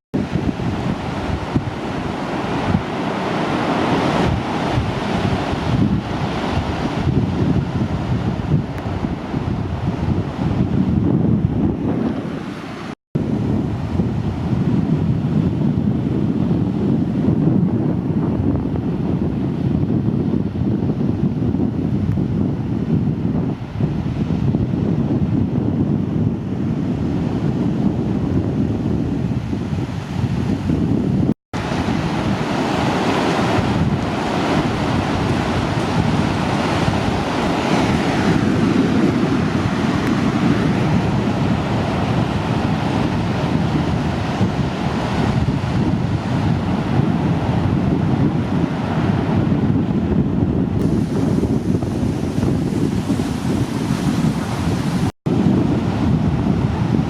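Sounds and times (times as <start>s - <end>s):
wind buffeting microphone: 0.1s - 57.0s
surf breaking on beach: 0.2s - 25.4s, 26.0s - 57.0s.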